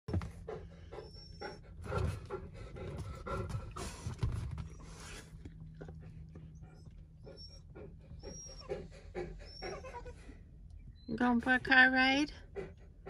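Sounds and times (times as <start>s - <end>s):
dog panting: 0.1s - 13.0s
low hum: 0.1s - 13.0s.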